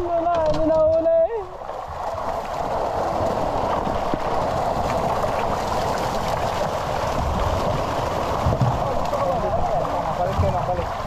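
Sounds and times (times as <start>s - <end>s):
fish thrashing and splashing water: 0.1s - 11.0s.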